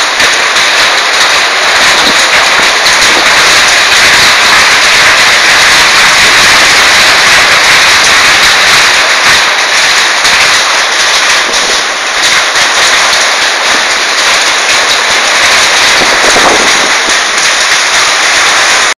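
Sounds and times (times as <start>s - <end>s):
heavy rain with hail: 0.0s - 19.0s.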